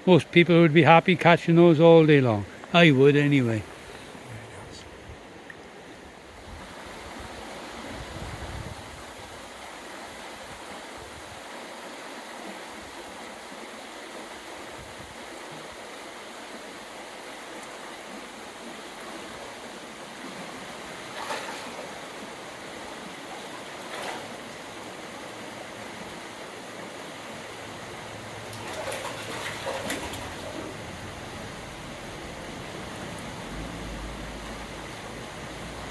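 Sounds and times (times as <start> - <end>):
stream rushing water: 0.0 - 35.9.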